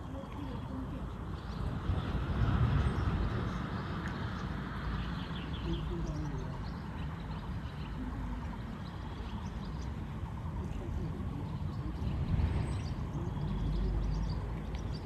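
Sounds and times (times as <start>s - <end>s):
muffled voices: 0.0s - 4.4s, 5.4s - 15.0s.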